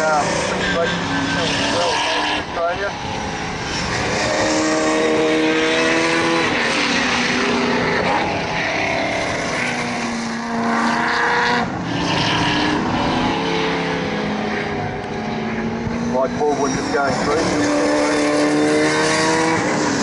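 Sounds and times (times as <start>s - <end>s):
racing car engines: 0.0s - 20.0s.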